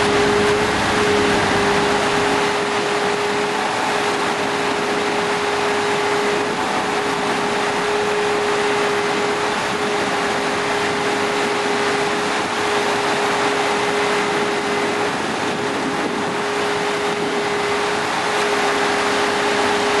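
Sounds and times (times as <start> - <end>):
machine humming steadily: 0.0 - 20.0.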